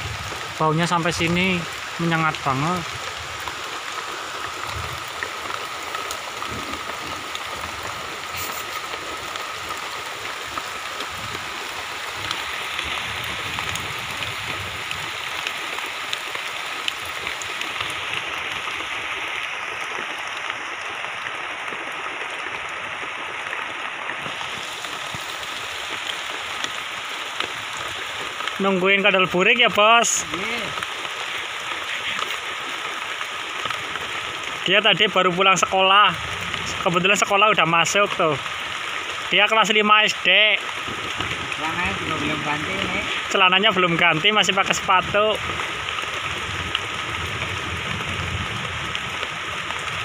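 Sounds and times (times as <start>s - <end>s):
heavy rain on leaves: 0.0s - 50.0s.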